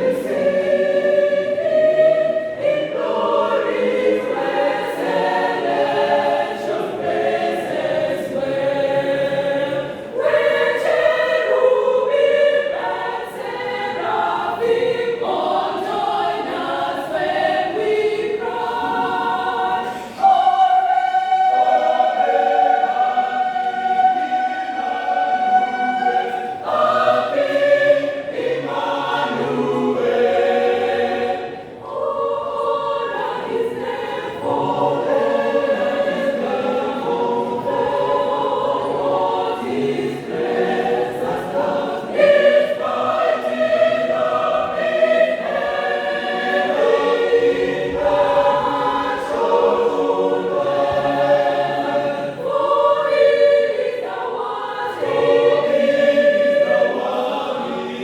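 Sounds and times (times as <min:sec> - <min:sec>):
choir singing a gospel song: 0:00.0 - 0:58.0.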